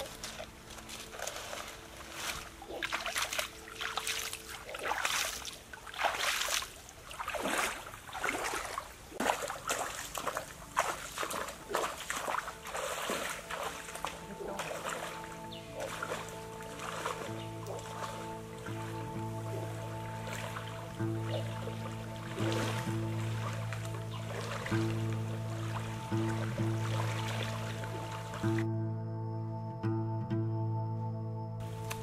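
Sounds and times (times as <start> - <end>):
legs wading through water: 0.0 - 28.7
stream water splashing: 0.0 - 28.7.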